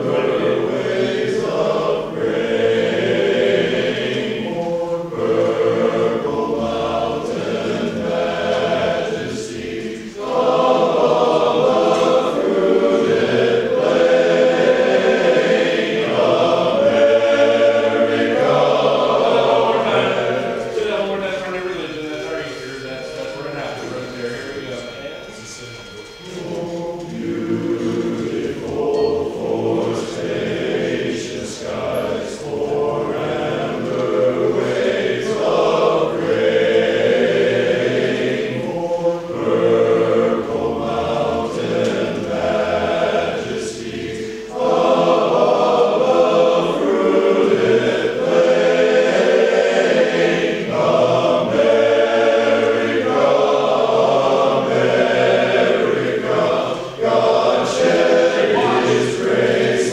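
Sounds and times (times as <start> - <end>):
men's chorus singing in harmony: 0.0 - 59.9.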